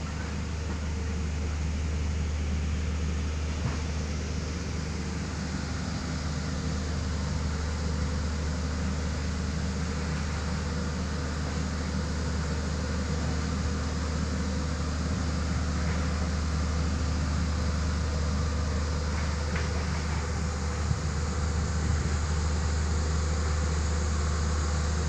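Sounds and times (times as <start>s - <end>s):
road roller diesel engine droning: 0.0s - 25.0s.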